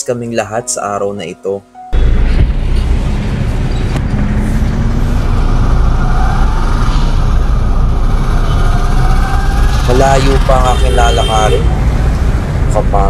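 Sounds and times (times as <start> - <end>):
road traffic rumble: 1.9 - 13.0.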